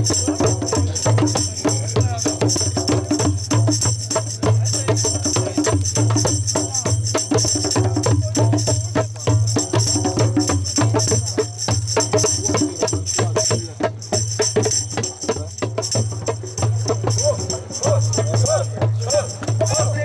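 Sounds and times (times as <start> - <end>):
fast hand percussion music: 0.0 - 20.0.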